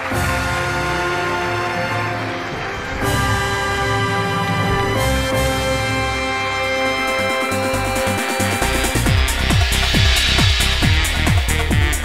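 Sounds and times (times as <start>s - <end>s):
sustained soundtrack chords: 0.0s - 11.6s.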